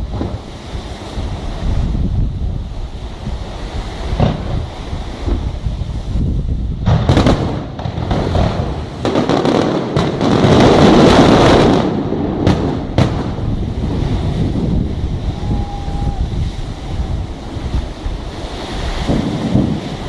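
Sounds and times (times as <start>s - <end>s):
fireworks bangs: 0.0s - 2.0s, 3.3s - 5.7s, 6.7s - 20.0s
crackling firework bursts: 0.0s - 6.1s, 6.7s - 20.0s.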